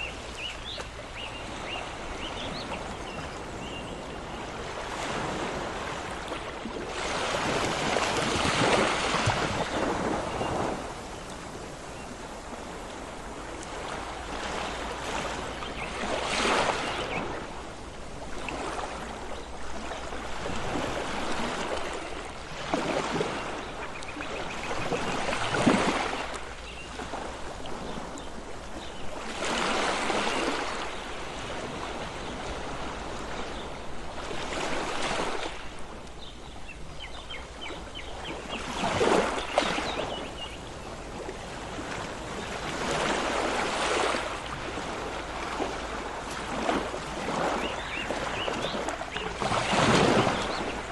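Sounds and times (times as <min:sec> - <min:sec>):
steady wash of water: 0:00.0 - 0:27.8, 0:28.4 - 0:50.9
waves breaking: 0:00.0 - 0:50.9.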